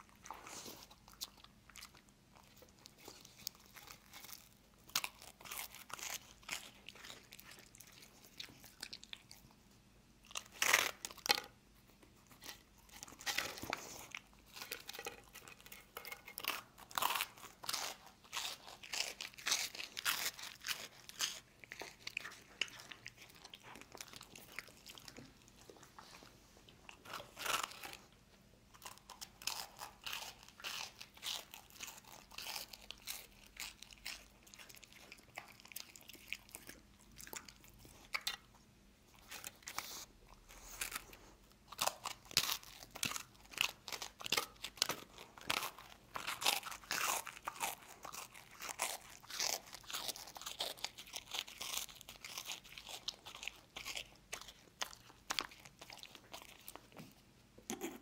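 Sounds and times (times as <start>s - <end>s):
dog crunching and chewing toast: 0.0s - 58.0s.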